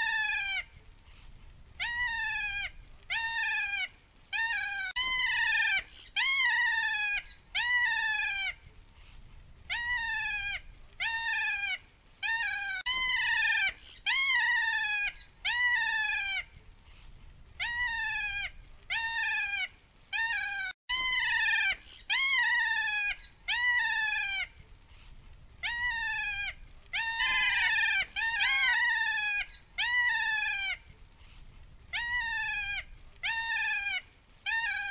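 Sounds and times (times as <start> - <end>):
parrot shrill calls: 0.0 - 0.7, 1.8 - 8.6, 9.7 - 16.5, 17.6 - 24.6, 25.6 - 30.8, 31.9 - 34.9.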